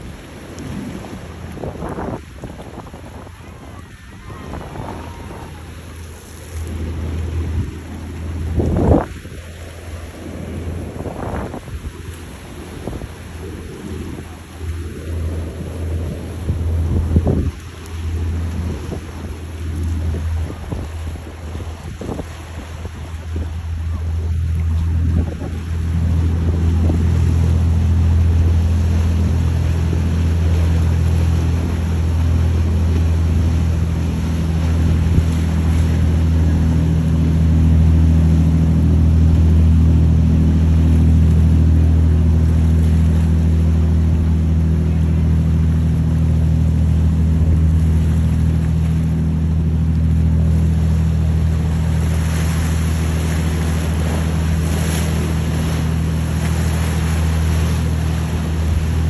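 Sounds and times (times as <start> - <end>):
boat diesel engines droning: 0.0 - 59.0
rush of water from wake: 0.0 - 59.0.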